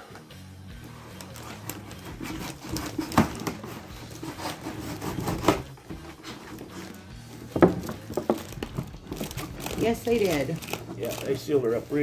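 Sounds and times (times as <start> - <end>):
tape and cardboard crackling: 0.8 - 12.0.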